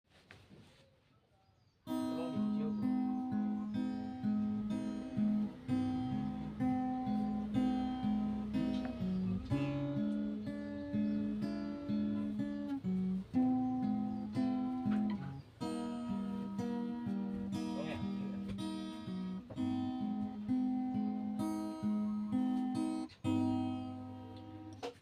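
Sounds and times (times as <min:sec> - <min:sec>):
acoustic guitar strumming chords: 0:01.9 - 0:25.0.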